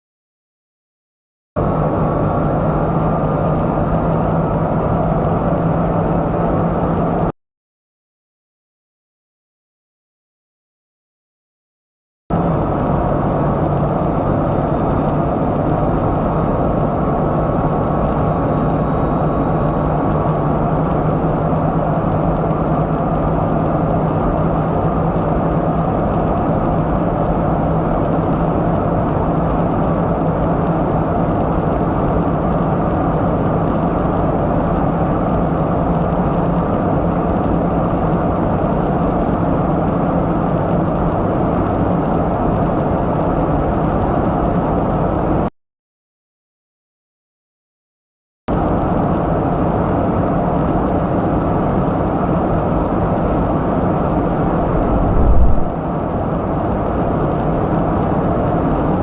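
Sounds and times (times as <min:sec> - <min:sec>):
car engine drone: 0:01.6 - 0:07.3, 0:12.3 - 0:45.5, 0:48.5 - 0:59.0
road and wind noise: 0:01.6 - 0:07.3, 0:12.3 - 0:45.5, 0:48.5 - 0:59.0.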